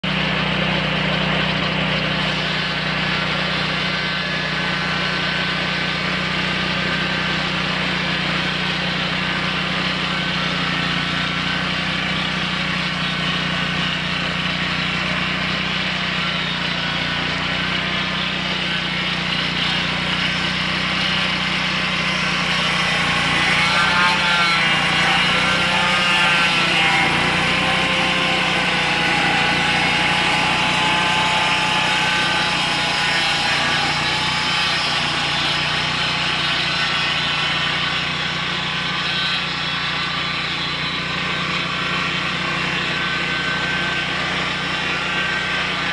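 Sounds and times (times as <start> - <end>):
sawmill engine running: 0.0 - 45.9
band blade cutting log: 0.3 - 45.9.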